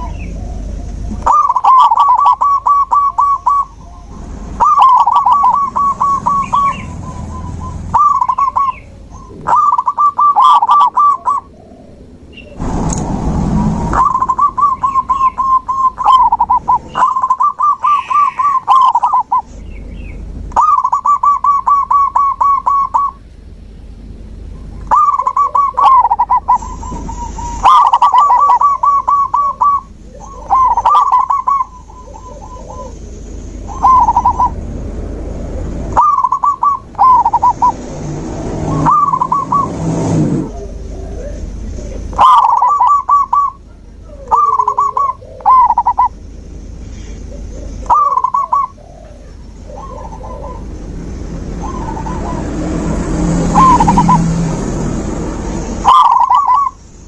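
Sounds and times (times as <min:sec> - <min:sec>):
dove cooing staccato notes: 0:00.0 - 0:12.2, 0:13.9 - 0:19.6, 0:20.5 - 0:23.3, 0:24.6 - 0:46.2, 0:47.1 - 0:56.8.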